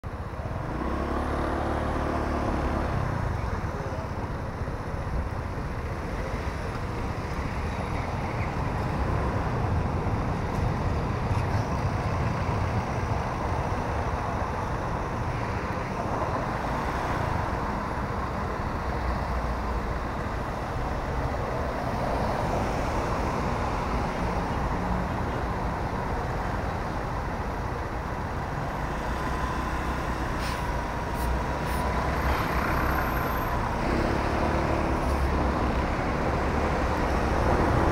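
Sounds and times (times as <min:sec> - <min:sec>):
city traffic rumble: 0:00.0 - 0:37.9
cars passing close by: 0:00.1 - 0:37.9.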